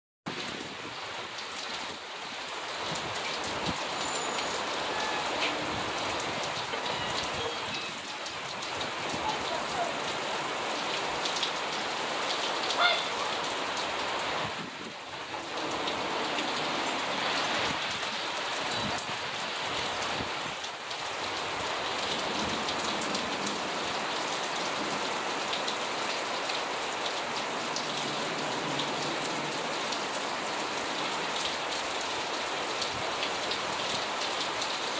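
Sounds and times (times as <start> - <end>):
heavy rain drumming: 0.3 - 34.9.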